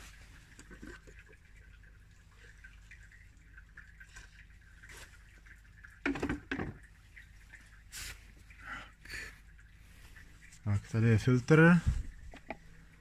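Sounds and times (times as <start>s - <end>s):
oil dripping and trickling: 0.0s - 13.0s.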